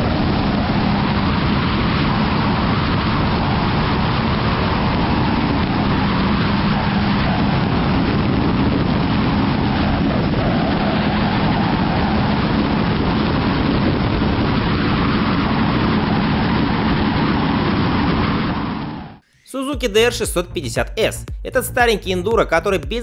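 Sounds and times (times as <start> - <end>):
motorcycle engine hum: 0.0 - 19.2
wind and road noise: 0.0 - 19.2.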